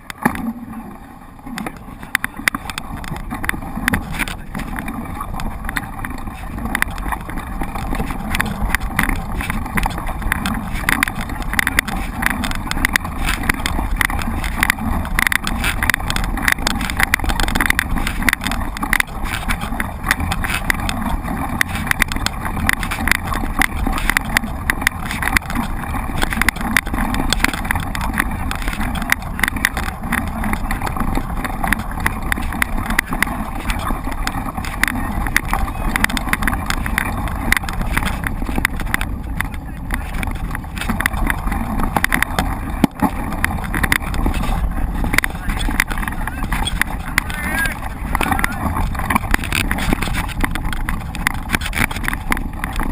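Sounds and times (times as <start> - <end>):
bike rattling and crunching: 0.0 - 52.9
wind rumble on microphone: 0.0 - 52.9.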